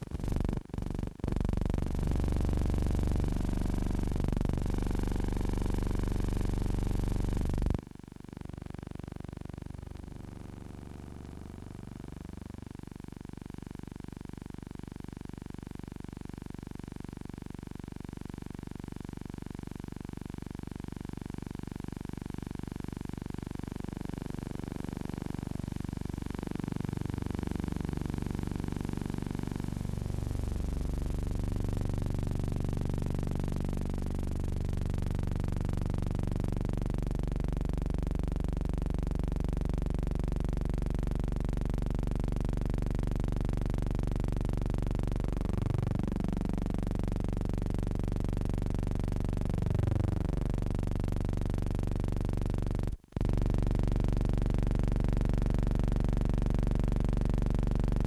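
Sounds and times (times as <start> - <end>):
low hum with overtones: 0.0 - 58.0.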